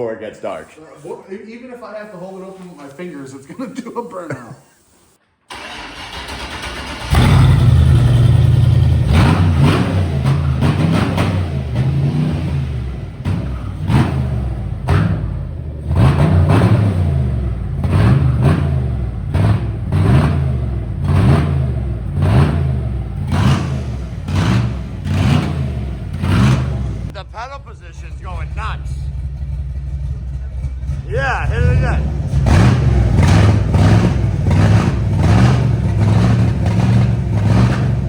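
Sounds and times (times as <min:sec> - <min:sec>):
truck engine revving: 0:05.5 - 0:38.0.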